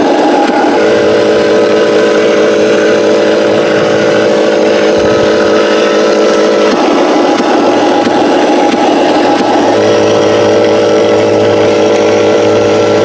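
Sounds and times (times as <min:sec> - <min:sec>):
remote-control truck engine drone: 0:00.0 - 0:13.0.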